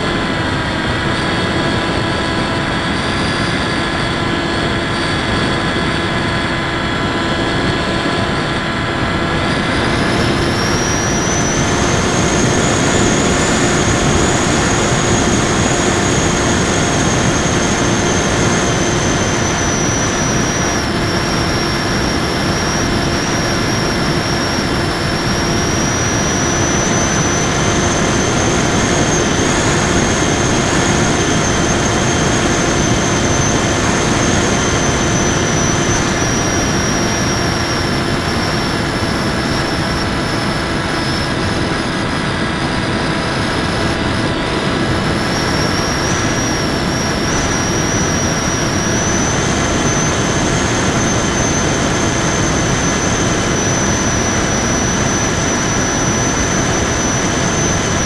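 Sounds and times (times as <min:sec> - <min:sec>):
model plane electric motor whine: 0:00.0 - 0:58.0.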